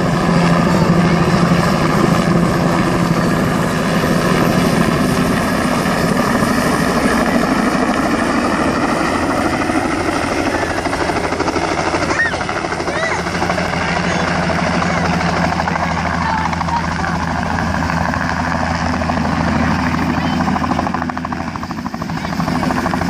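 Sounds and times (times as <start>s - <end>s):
helicopter engine running: 0.0s - 23.0s
helicopter rotor chopping: 0.0s - 23.0s.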